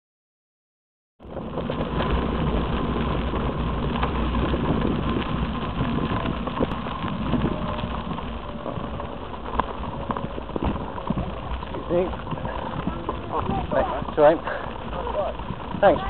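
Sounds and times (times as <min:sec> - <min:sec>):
bicycle tyre noise: 0:01.2 - 0:16.0
gravel clicks: 0:01.2 - 0:16.0
wind rumble on microphone: 0:01.2 - 0:16.0.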